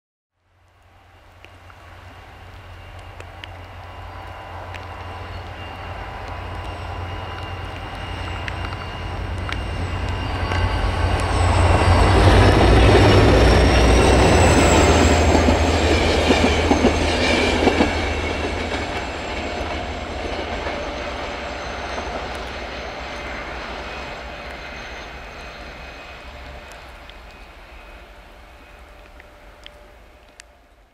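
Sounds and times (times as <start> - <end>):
diesel locomotive engine rumble: 0.8 - 30.9
train coaches rolling: 1.9 - 30.3
thin high steady tones: 1.9 - 30.6.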